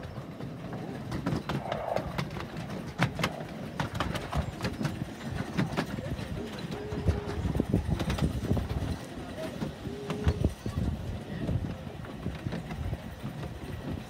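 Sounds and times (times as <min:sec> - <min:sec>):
miniature train rumbling: 0:00.0 - 0:14.0
wheels clicking on track: 0:00.0 - 0:14.0.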